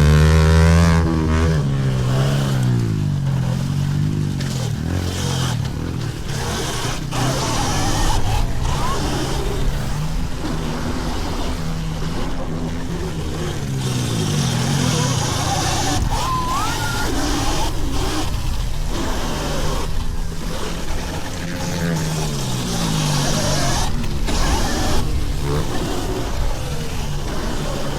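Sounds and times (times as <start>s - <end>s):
pit bike engines revving: 0.0s - 27.9s.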